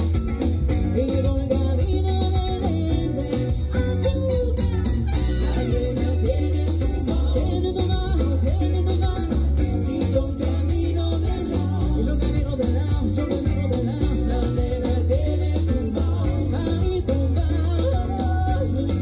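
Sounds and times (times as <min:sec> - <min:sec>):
bass line: 0:00.0 - 0:19.0
guitar: 0:00.0 - 0:19.0
latin dance band playing: 0:00.0 - 0:19.0
lead vocalist singing: 0:00.0 - 0:19.0.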